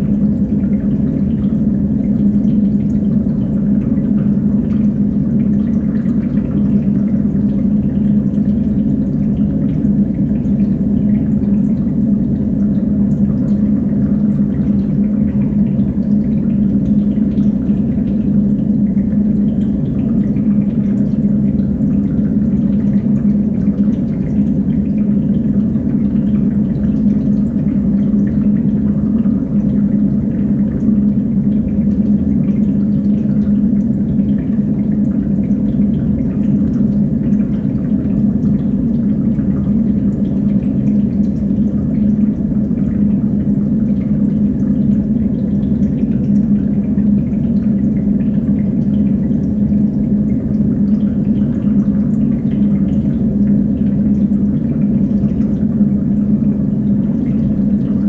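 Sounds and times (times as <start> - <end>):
constant low hum: 0.0 - 58.0
water running through fish tanks: 0.0 - 58.0.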